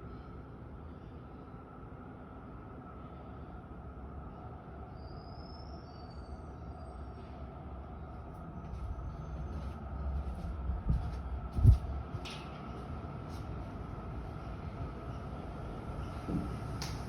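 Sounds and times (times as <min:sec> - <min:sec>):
low rumbling through ceiling: 0:00.0 - 0:17.0.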